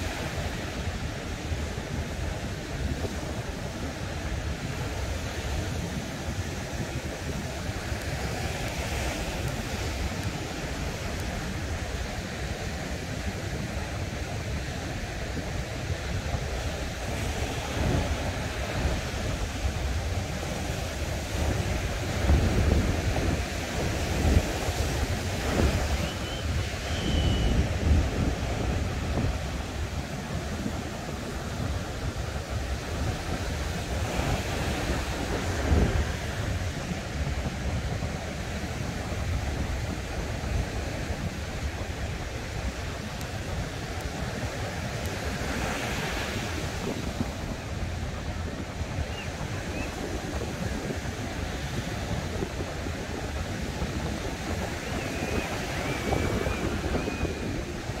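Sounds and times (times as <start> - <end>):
ocean surf breaking: 0.0 - 58.0
wind buffeting microphone: 0.0 - 58.0.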